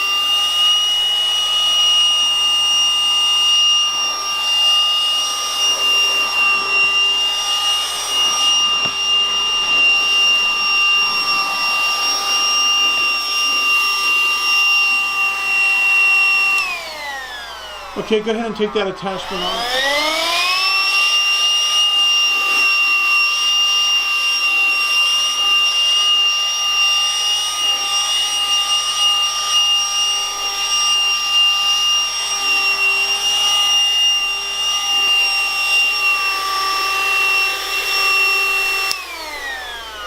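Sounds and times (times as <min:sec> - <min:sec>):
handheld vacuum cleaner whining: 0:00.0 - 0:40.0
motor spinning down: 0:00.0 - 0:40.0.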